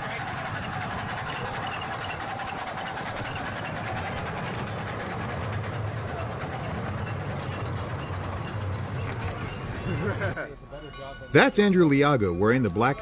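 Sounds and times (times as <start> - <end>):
locomotive running with low hum: 0.0 - 13.0.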